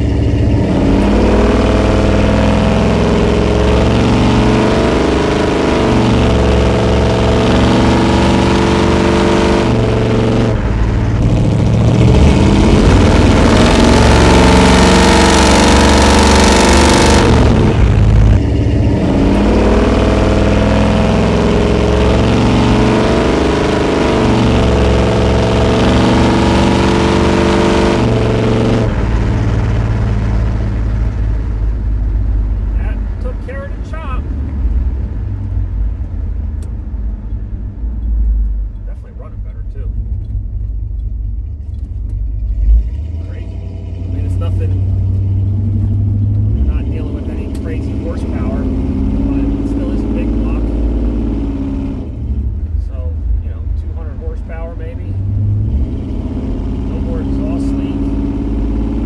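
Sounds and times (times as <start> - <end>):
v-eight engine accelerating hard: 0.0 - 59.0.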